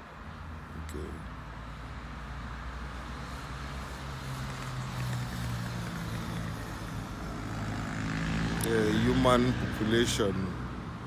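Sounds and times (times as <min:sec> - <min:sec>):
outdoor noise: 0:00.0 - 0:11.0
vehicle engine hum: 0:00.6 - 0:11.0.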